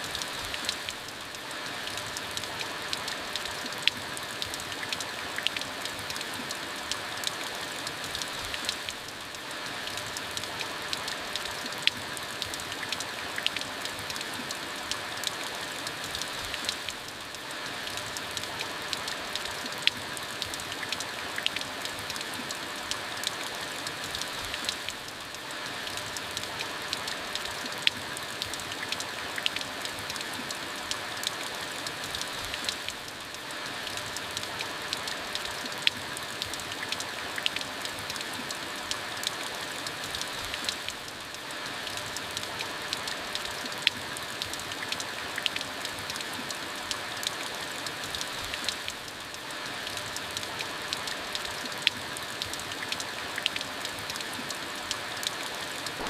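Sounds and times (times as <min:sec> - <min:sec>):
rain falling: 0:00.0 - 0:56.0
raindrops ticking on a surface: 0:00.0 - 0:56.0.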